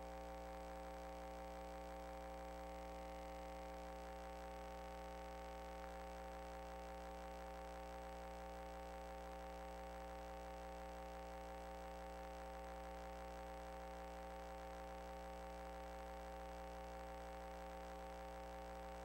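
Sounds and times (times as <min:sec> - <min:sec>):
steady electrical hum with tones: 0:00.0 - 0:19.0.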